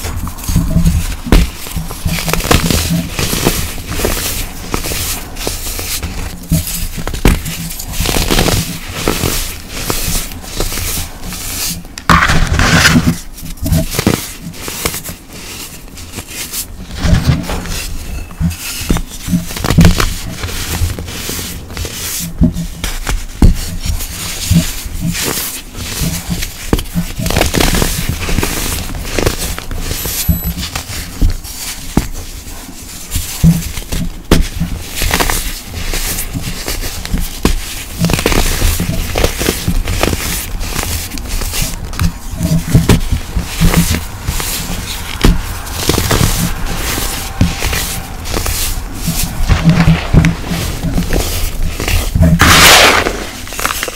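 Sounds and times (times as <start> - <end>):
powder chunks crunching: 0.0 - 17.9, 24.7 - 32.3, 33.1 - 53.9.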